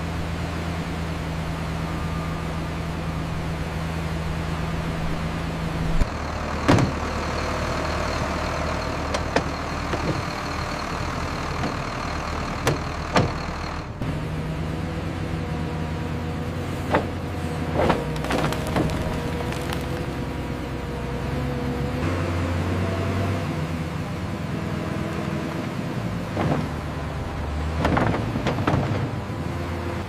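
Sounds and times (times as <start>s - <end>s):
sawmill machinery humming: 0.0s - 30.0s.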